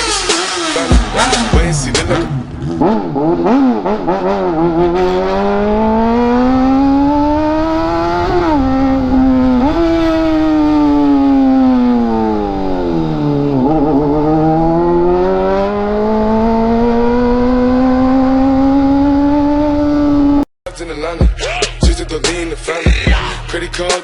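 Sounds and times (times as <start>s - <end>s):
motorcycle engine accelerating: 0.0s - 20.5s.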